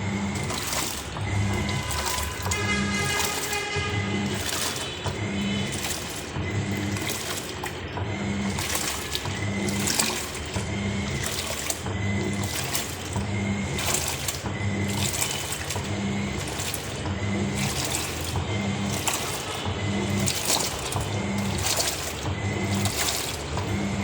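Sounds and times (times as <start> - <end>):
washing machine motor humming: 0.0 - 24.0
water sloshing in tub: 0.0 - 24.0.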